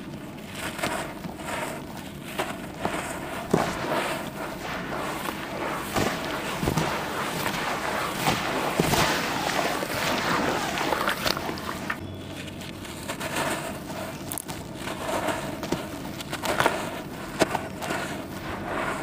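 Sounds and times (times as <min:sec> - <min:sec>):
charcoal crumbling: 0:00.0 - 0:19.0.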